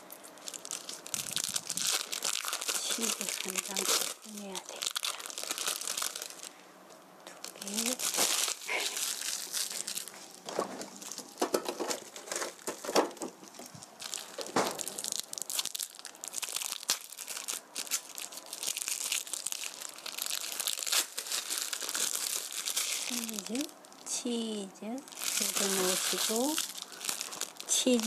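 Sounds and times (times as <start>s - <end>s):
plastic film crinkling: 0.0s - 28.0s.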